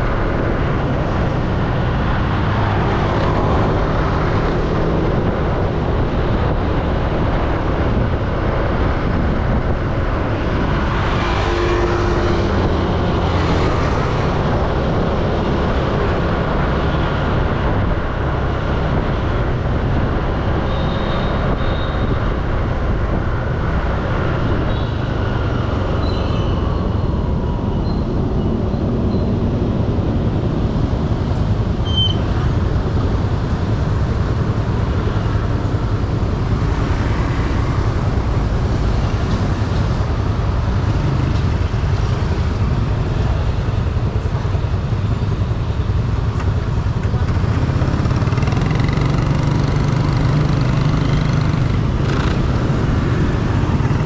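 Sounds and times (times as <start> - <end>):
scooter engine and tyre noise: 0.0 - 54.0
wind rush on microphone: 0.0 - 54.0.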